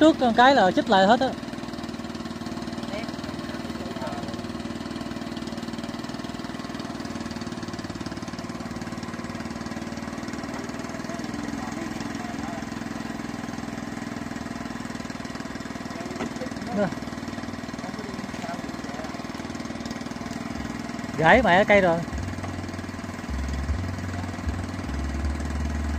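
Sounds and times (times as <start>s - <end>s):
water pump engine running: 0.0s - 25.9s.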